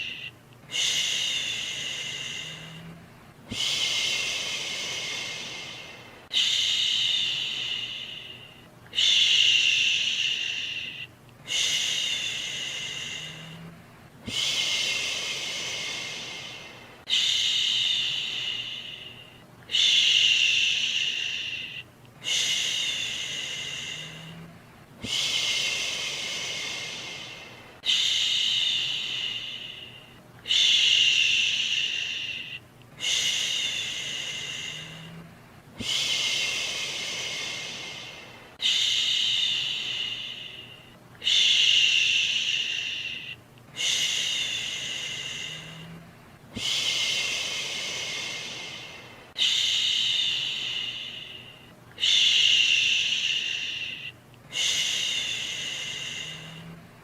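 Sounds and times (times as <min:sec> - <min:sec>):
person shushing: 0:00.0 - 0:46.0, 0:46.6 - 0:56.8.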